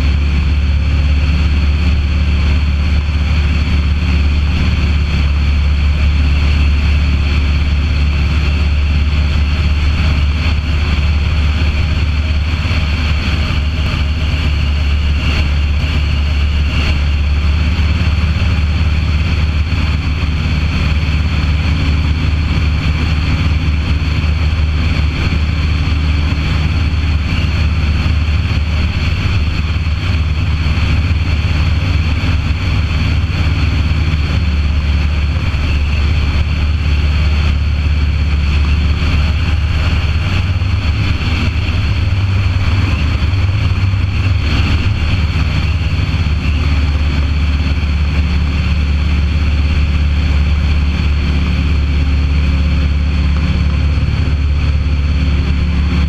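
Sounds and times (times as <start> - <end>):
aircraft engine droning: 0.0 - 56.0
wind rushing over microphone: 0.0 - 56.0.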